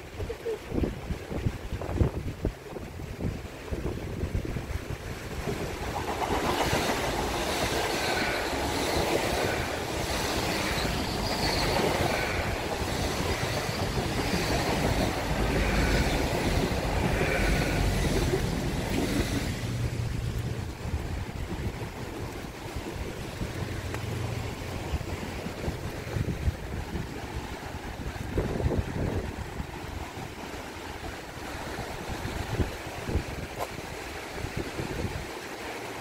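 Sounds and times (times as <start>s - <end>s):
train wheels rumbling on rails: 0.4s - 36.0s.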